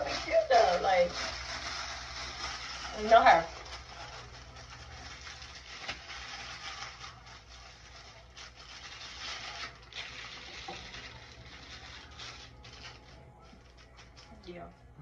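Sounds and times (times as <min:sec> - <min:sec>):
aluminium foil crinkling: 0:00.0 - 0:14.9.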